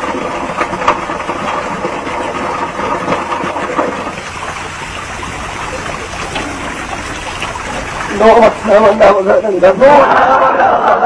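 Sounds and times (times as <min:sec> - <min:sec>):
waterfall pouring and splashing: 0:00.0 - 0:10.0.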